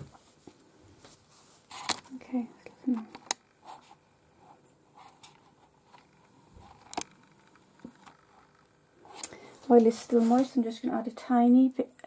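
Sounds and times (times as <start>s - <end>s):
faint handling noises: 0.0s - 11.0s.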